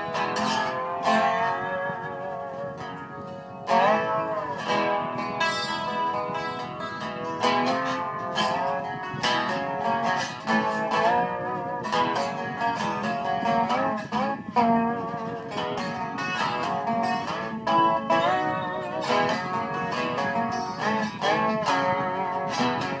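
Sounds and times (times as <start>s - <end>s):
resonator slide guitar melody: 0.0s - 23.0s.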